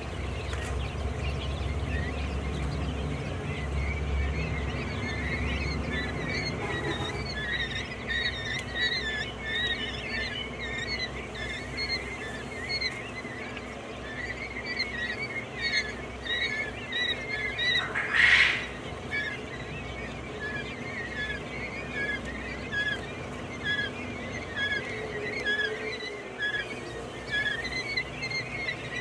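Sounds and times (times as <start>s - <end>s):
quail chirping: 0.0s - 29.0s.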